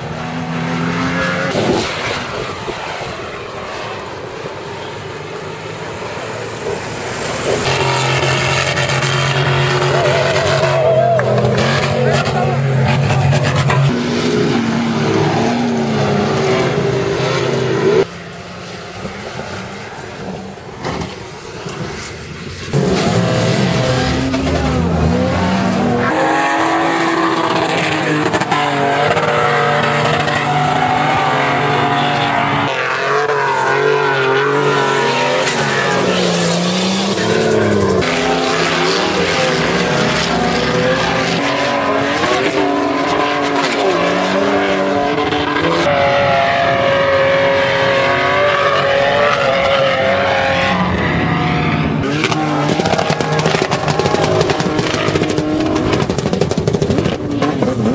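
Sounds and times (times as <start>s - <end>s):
off-road engines revving: 0.0s - 57.9s.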